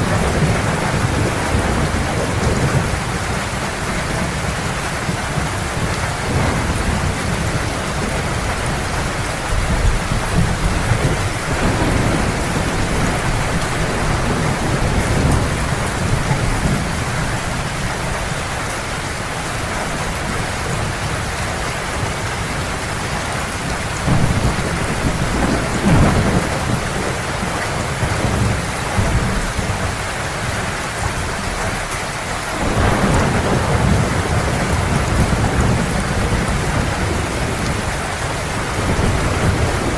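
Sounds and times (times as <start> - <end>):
rolling thunder: 0.0 - 18.4, 19.0 - 30.0, 32.5 - 39.9
heavy rain falling: 0.0 - 39.9.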